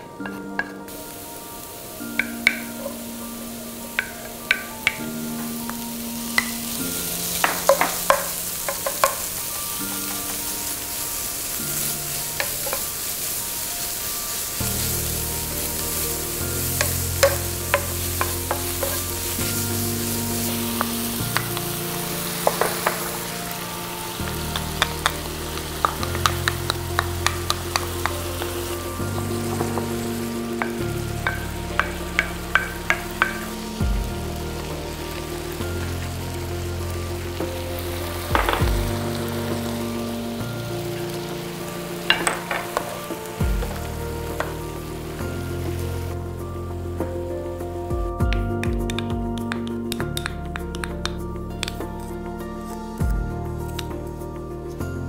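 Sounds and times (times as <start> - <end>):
food sizzling in frying pan: 0.6 - 47.9.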